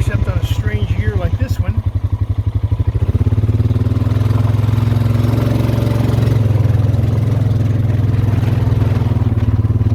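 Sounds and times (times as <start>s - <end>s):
atv engine chugging: 0.0s - 9.9s.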